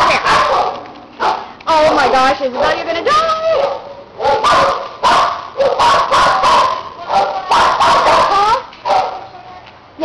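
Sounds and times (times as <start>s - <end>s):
dogs barking and yipping: 0.0s - 9.3s.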